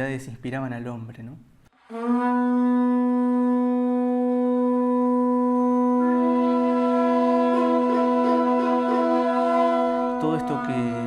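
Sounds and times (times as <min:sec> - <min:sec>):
higher wind instrument melody: 0:01.8 - 0:11.0
wind instrument drone note: 0:01.8 - 0:11.0.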